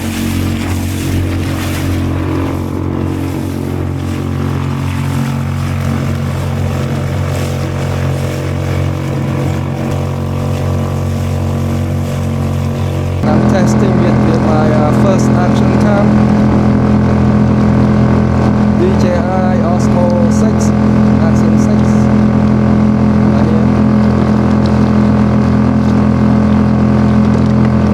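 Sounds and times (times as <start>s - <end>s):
outboard motor running: 0.0s - 27.9s.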